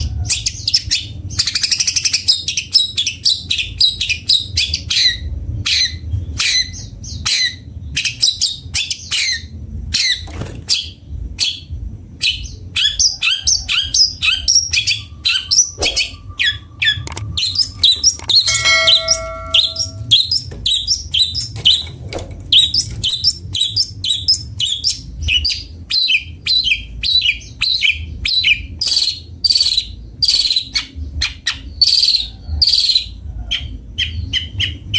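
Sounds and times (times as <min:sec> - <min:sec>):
bird chattering song: 0:00.0 - 0:21.9, 0:22.5 - 0:34.9.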